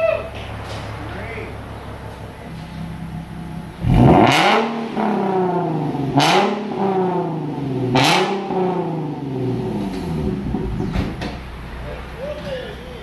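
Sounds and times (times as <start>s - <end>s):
car engine revving with rasp: 0.4s - 13.0s.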